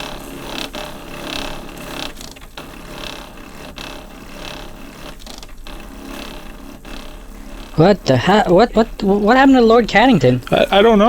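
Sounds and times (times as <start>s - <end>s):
low electrical hum: 0.0s - 11.0s
rhythmic mechanical grinding: 0.0s - 11.0s.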